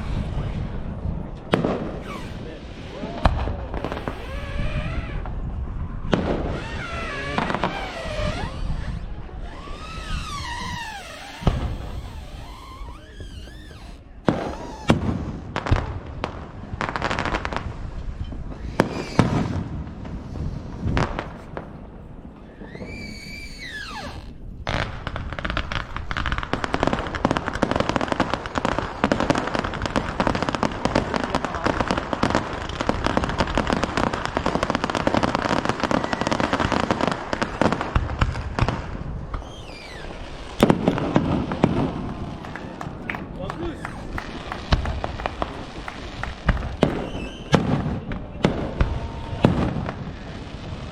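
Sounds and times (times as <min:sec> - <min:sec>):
firework bangs: 0:00.0 - 0:50.9
firework crackling: 0:00.0 - 0:50.9
firework whistle: 0:01.6 - 0:15.9, 0:18.2 - 0:21.5, 0:22.4 - 0:24.4, 0:28.7 - 0:38.7, 0:39.3 - 0:50.9.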